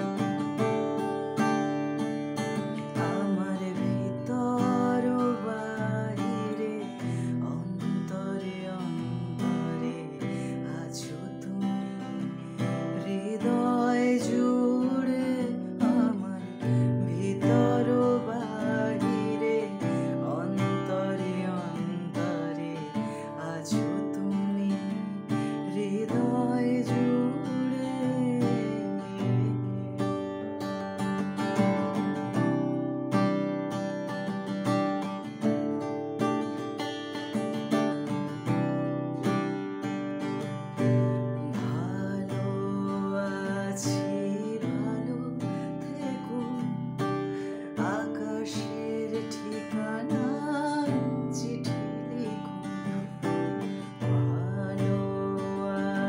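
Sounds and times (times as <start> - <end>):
acoustic guitar strumming: 0.0 - 56.0
man singing: 2.6 - 32.3, 40.7 - 56.0.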